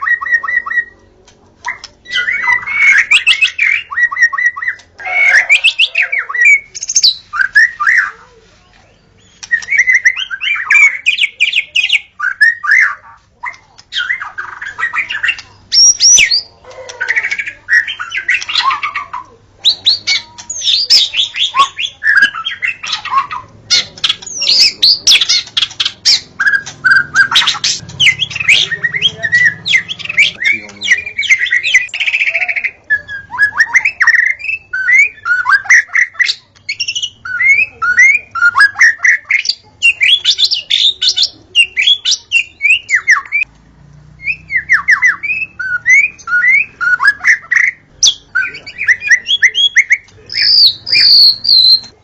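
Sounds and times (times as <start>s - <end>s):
bird singing: 0.0s - 8.2s, 8.8s - 43.5s, 44.1s - 52.0s.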